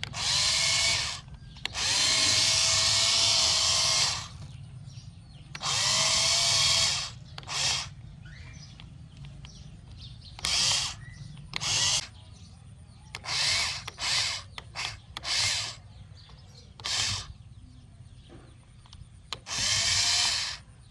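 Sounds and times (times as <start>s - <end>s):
toy excavator motors whirring: 0.0s - 20.9s.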